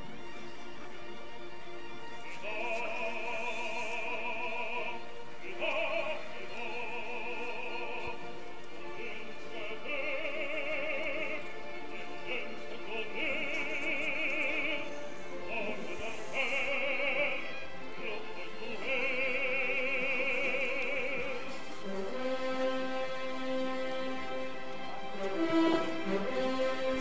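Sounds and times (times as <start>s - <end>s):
orchestral backing: 0.0s - 27.0s
operatic singing: 2.2s - 27.0s.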